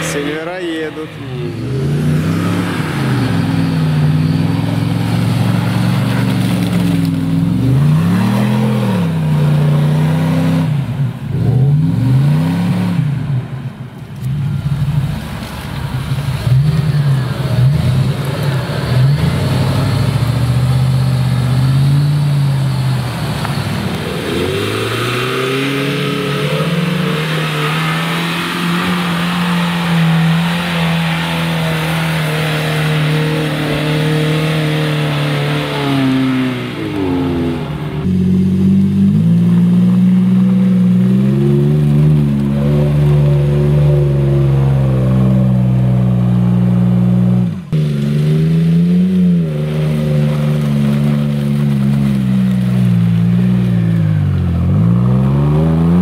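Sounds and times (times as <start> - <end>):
suv engines revving in mud: 0.0 - 56.0.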